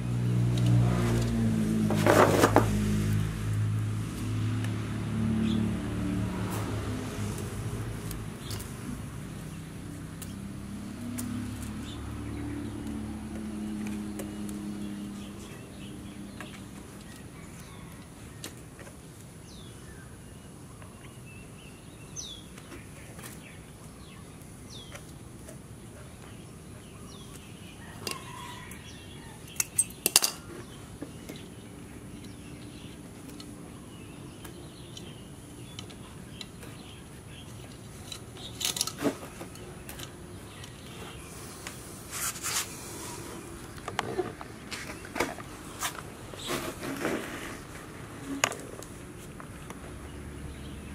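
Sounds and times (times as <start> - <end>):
birds chirping: 8.1 - 50.9.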